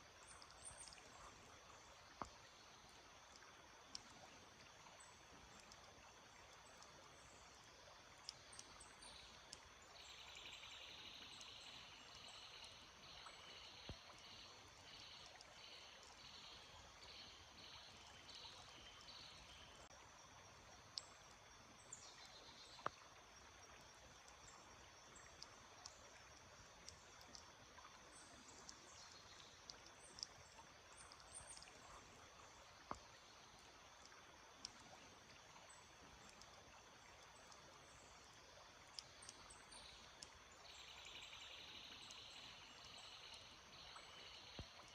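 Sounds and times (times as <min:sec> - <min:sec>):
small stream trickling: 0:00.0 - 0:44.9.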